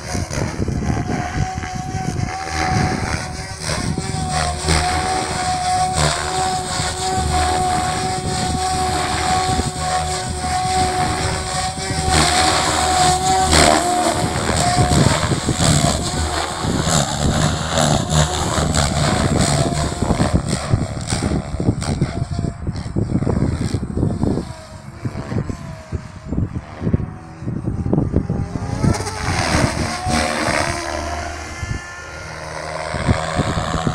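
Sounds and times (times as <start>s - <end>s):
helicopter motor and gear whine: 0.0s - 33.9s
rotor blade noise: 0.0s - 33.9s.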